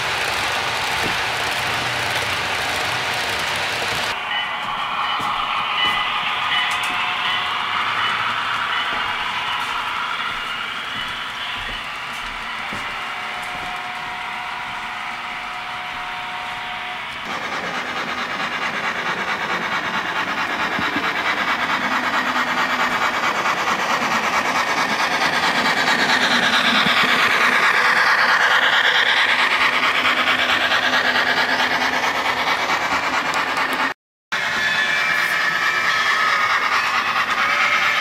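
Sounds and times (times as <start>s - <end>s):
model train rattling on track: 0.0s - 38.0s.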